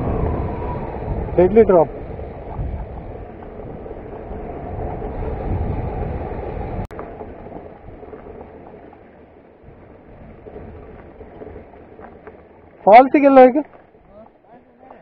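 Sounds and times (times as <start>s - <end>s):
wind noise on microphone: 0.0s - 14.3s
motorcycle engine rumble: 0.0s - 15.0s.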